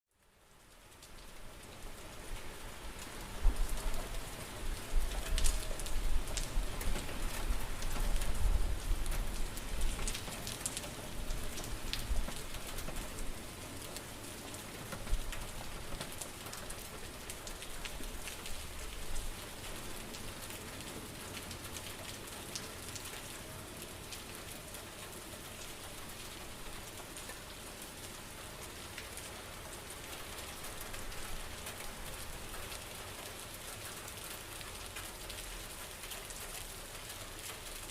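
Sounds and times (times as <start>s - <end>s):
rain falling: 0.1s - 37.9s
raindrops pattering: 0.1s - 37.9s.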